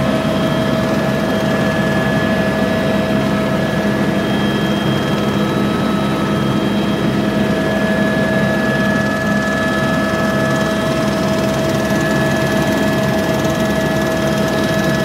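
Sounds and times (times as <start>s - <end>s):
helicopter engine and rotors droning: 0.0s - 15.0s.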